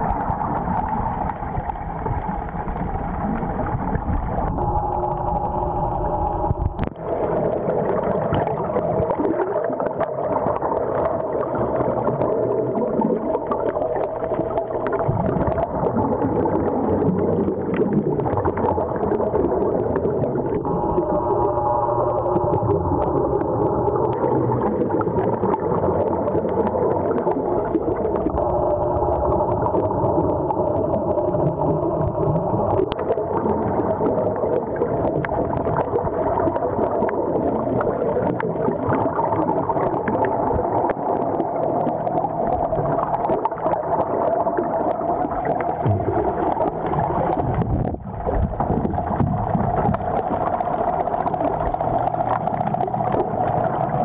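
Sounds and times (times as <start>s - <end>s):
air bubbles gurgling: 0.0s - 54.0s
underwater hum: 0.0s - 54.0s.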